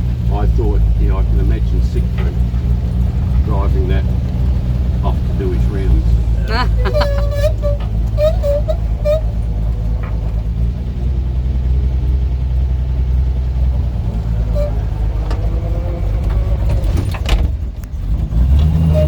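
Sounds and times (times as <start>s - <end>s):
car engine running: 0.0s - 18.6s.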